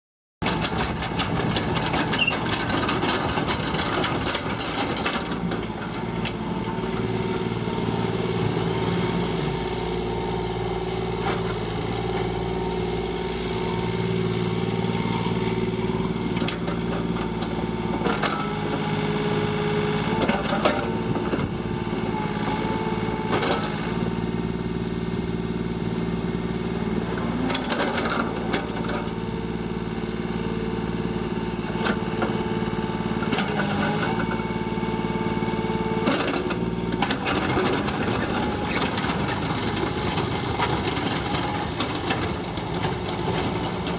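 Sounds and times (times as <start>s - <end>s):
excavator diesel engine running: 0.4s - 43.9s.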